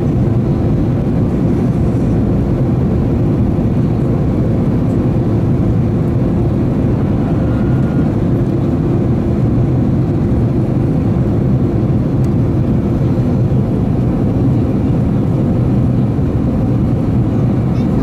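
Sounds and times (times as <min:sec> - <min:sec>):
jet engine and airflow drone: 0:00.0 - 0:18.0
steady low hum: 0:00.0 - 0:18.0.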